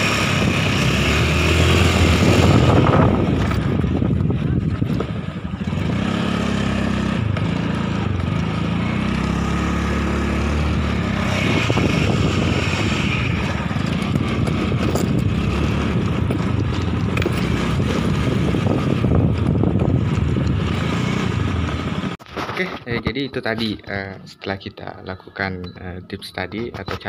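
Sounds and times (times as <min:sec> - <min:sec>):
scooter engine running: 0:00.0 - 0:22.2
road and wind noise: 0:00.0 - 0:27.0.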